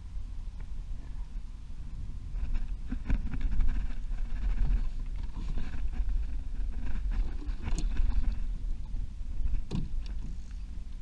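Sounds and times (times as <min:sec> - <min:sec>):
wind rumble on microphone: 0:00.0 - 0:11.0
water lapping against kayak hull: 0:00.6 - 0:11.0.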